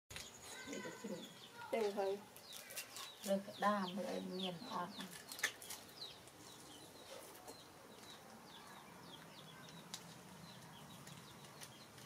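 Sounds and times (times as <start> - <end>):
birds chirping faintly: 0.1 - 12.0.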